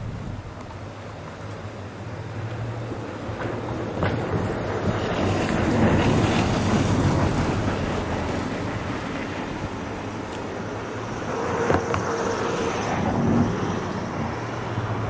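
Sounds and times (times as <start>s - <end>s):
wind buffeting microphone: 0.0s - 0.9s, 3.0s - 15.0s.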